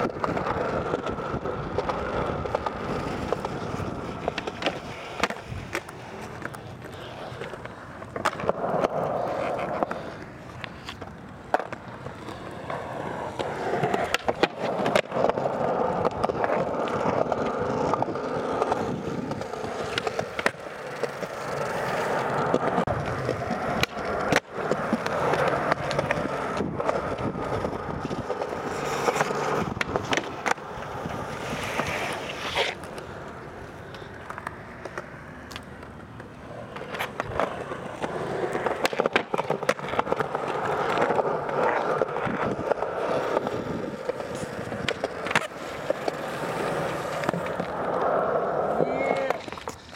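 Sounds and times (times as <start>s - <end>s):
skateboard clacking on ground: 0.0s - 49.9s
skateboard wheels rolling on pavement: 0.0s - 49.9s.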